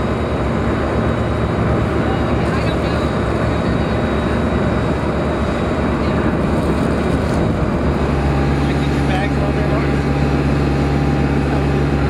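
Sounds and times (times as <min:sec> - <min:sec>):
jet aircraft roar with high whine: 0:00.0 - 0:12.0
low hum: 0:00.0 - 0:12.0.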